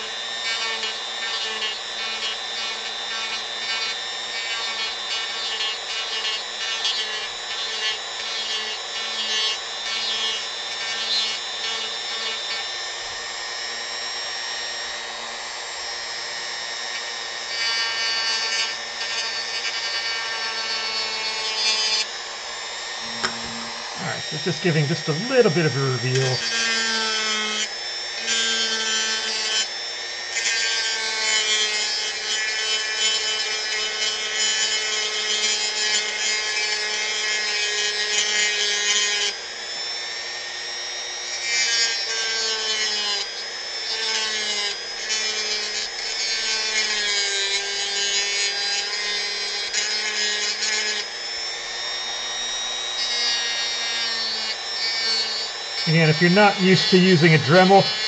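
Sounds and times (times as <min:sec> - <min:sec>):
rotary tool grinding wood: 0:00.0 - 0:58.0.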